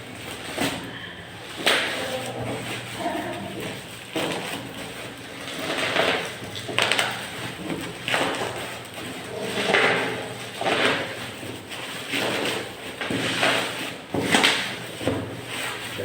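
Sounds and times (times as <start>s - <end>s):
rustling and scraping handling noise: 0.0s - 16.0s.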